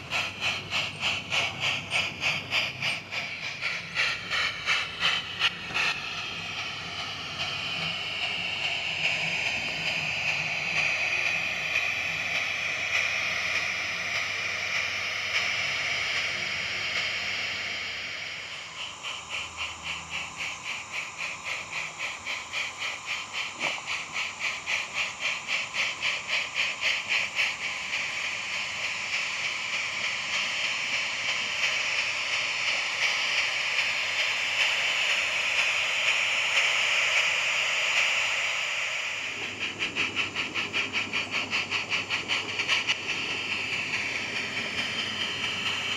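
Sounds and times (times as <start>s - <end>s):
steam hiss: 0.0s - 45.9s
steam locomotive chuffing: 0.0s - 45.9s.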